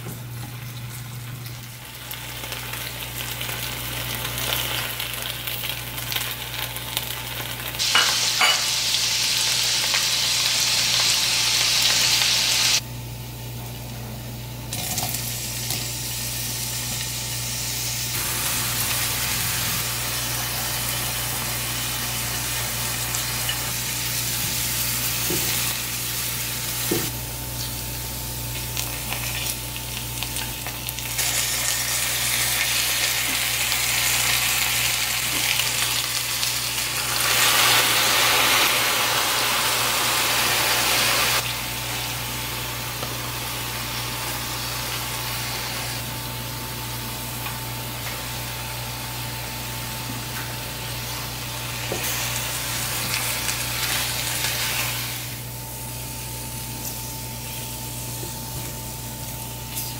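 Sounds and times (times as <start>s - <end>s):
oil sizzling in a frying pan: 0.5s - 12.8s, 15.0s - 59.9s.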